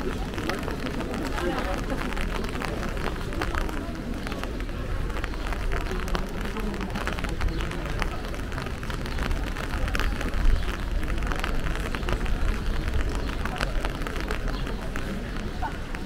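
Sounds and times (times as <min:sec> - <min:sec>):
loud rain tap: 0:00.0 - 0:16.0
rain pattering: 0:00.0 - 0:16.0.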